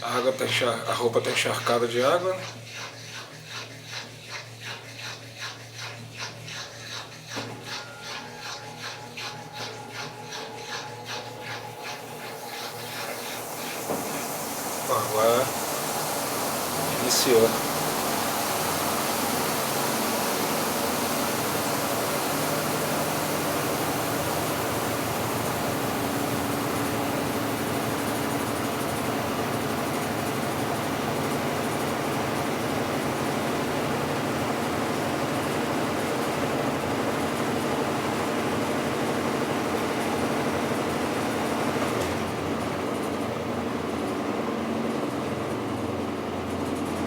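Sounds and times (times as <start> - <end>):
washing machine spinning: 0.0 - 47.0.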